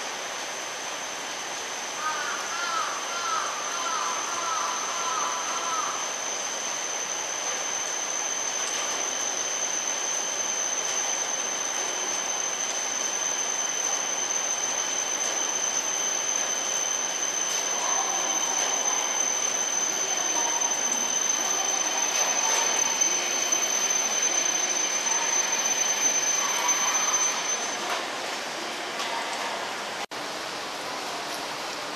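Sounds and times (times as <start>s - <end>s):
train high whine: 0.0s - 31.9s.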